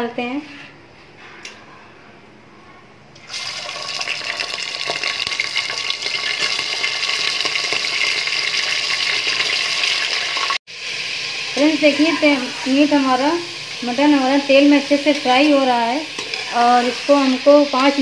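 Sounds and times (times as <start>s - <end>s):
meat sizzling in hot oil: 3.3s - 18.0s.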